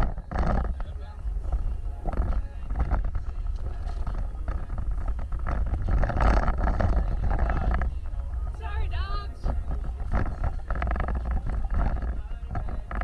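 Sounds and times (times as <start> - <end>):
vehicle rumbling over rough ground: 0.0 - 13.0.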